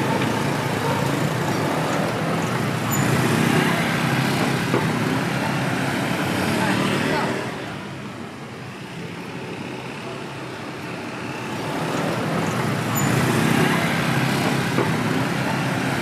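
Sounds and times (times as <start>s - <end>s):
people's voices: 0.0s - 8.2s, 9.0s - 16.0s
street traffic passing: 0.0s - 16.0s.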